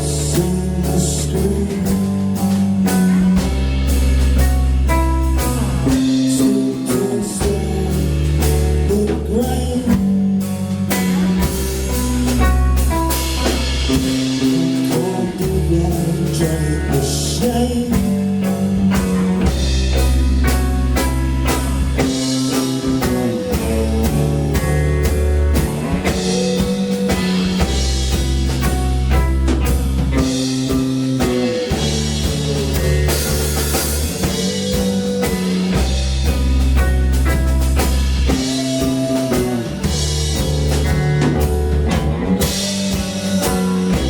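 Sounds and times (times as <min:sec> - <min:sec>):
live band playing blues-rock: 0:00.0 - 0:44.0.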